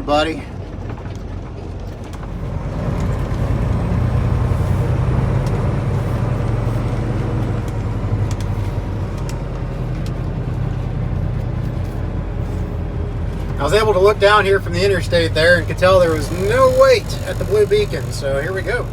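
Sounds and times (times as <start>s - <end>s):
truck diesel engine drone: 0.0s - 18.9s.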